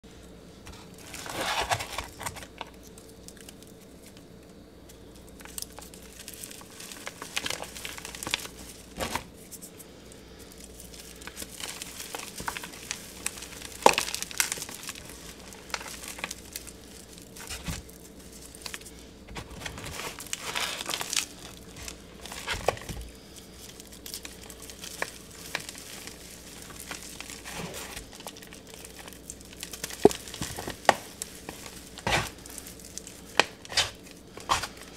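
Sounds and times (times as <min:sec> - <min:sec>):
hands crushing chalky block: 0:05.2 - 0:18.9, 0:19.6 - 0:34.9.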